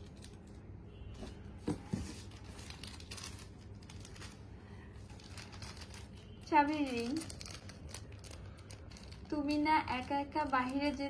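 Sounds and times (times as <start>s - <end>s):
plastic and paper crinkling: 0.0s - 0.7s, 1.6s - 11.0s.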